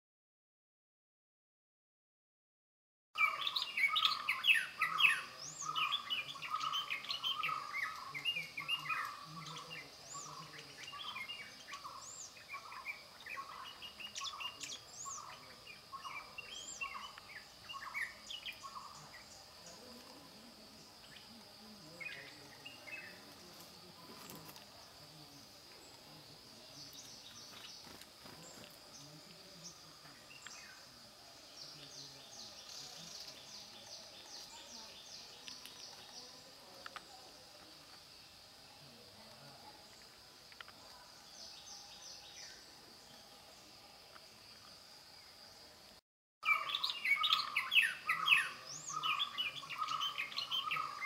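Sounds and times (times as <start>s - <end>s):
birds chirping: 3.2s - 51.0s.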